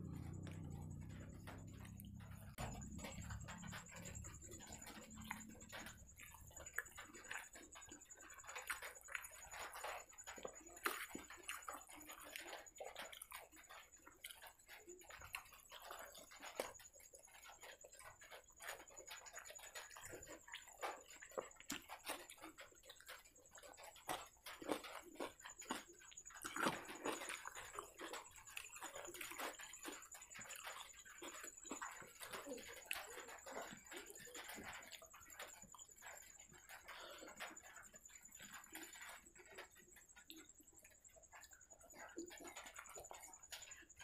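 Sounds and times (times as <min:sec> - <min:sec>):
person chewing: 0:00.0 - 0:44.0.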